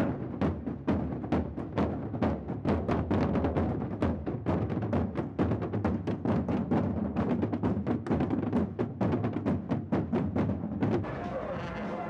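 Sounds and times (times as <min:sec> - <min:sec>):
street drum band playing: 0:00.0 - 0:12.0.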